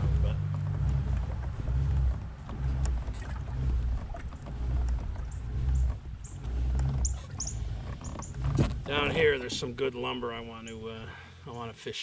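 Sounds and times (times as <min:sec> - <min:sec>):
kayak pedal drive rumble: 0:00.0 - 0:11.6.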